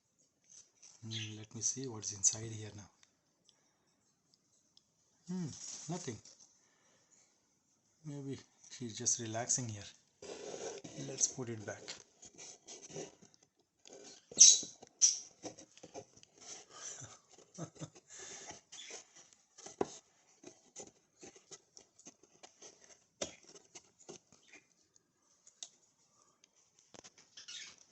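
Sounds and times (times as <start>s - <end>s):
rustling and scratching: 0.4s - 3.0s, 5.4s - 6.6s, 8.1s - 27.9s.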